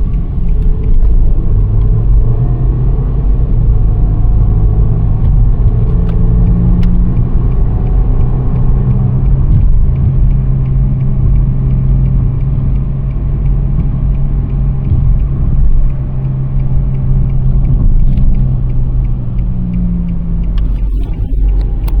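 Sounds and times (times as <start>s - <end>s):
car interior hum and road rumble: 0.0s - 22.0s.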